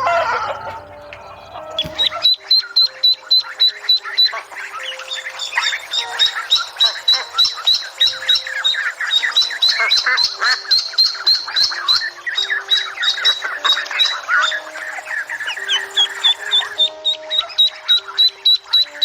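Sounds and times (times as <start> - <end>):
flock of birds squawking and chirping: 0.0 - 19.0.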